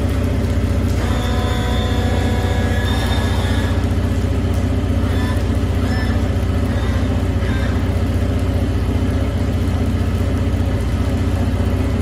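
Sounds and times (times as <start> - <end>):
outboard engines idling: 0.0 - 12.0.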